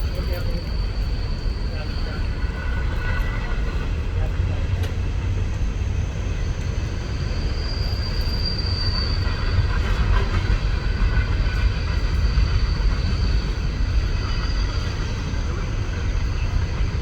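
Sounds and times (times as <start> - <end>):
high wheel squeal: 0.0 - 4.5, 5.7 - 17.0
train wheels rumbling on rails: 0.0 - 17.0.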